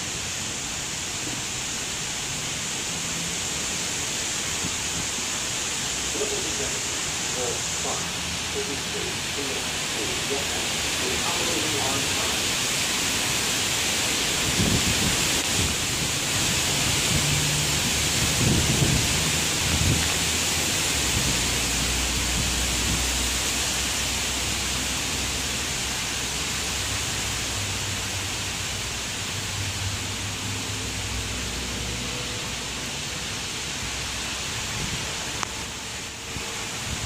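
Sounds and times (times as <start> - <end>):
distant diesel train hum: 0.0 - 37.0
heavy rain hissing: 0.0 - 37.0.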